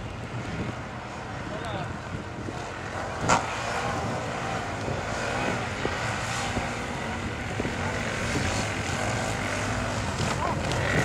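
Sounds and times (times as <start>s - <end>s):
atv engines droning: 0.0s - 11.0s.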